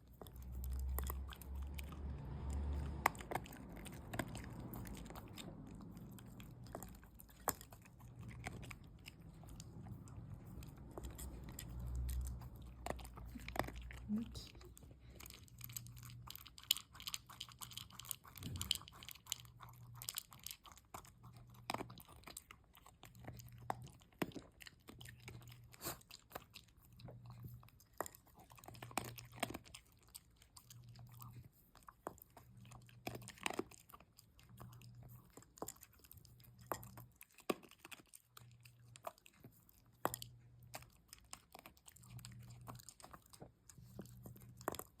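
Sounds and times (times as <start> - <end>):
dog chewing and crunching: 0.0 - 45.0.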